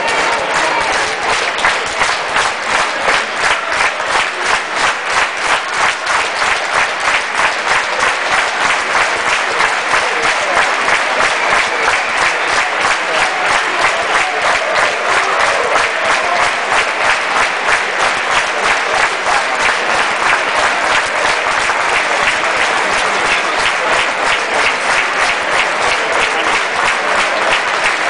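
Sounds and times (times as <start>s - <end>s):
crowd applauding: 0.0s - 28.0s.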